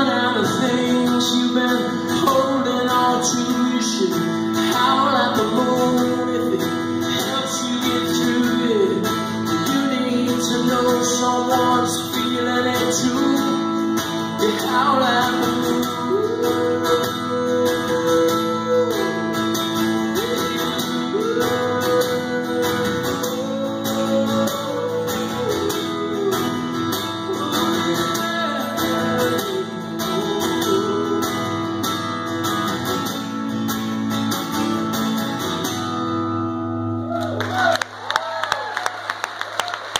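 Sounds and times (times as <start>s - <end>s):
acoustic guitar strumming: 0.0s - 37.1s.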